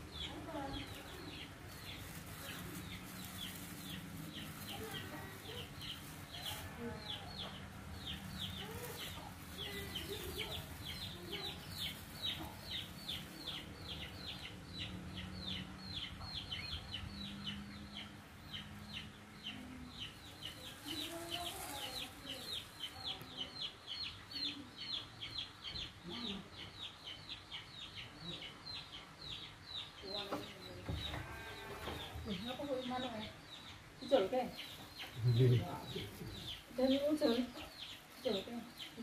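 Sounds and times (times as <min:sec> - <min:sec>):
bird peeping: 0:00.0 - 0:39.0.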